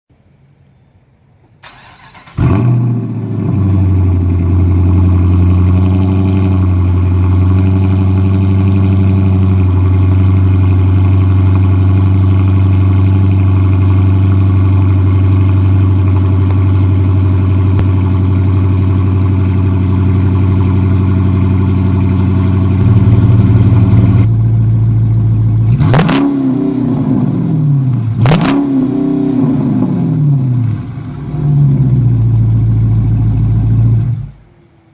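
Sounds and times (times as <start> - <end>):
car engine revving: 1.6 - 34.4
car engine idling: 1.6 - 34.9.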